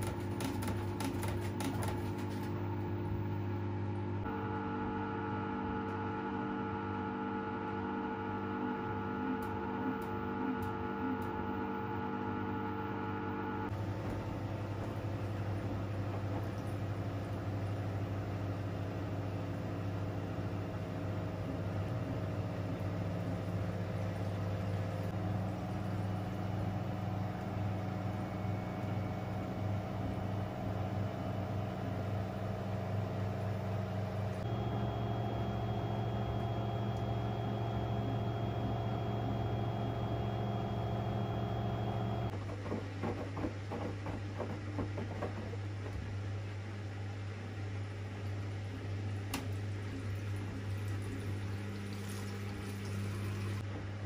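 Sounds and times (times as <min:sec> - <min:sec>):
washer drum motor humming: 0:00.0 - 0:54.0.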